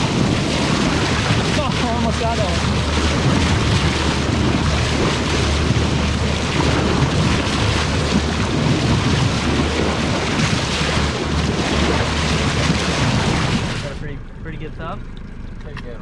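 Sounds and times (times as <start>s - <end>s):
wind on microphone: 0.0s - 14.0s
water rushing along boat hull: 0.0s - 14.1s
outboard engine drone: 0.0s - 16.0s.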